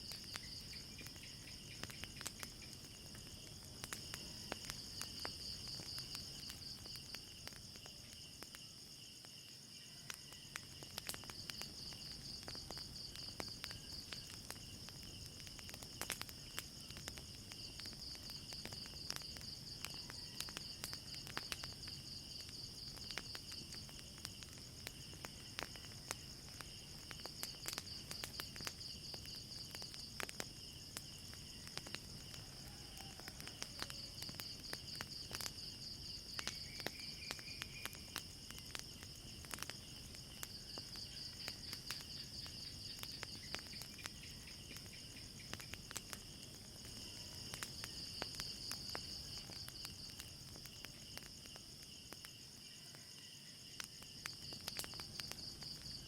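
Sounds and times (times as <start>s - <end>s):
crickets trilling: 0.0s - 56.0s
wood fire crackling: 0.0s - 56.0s.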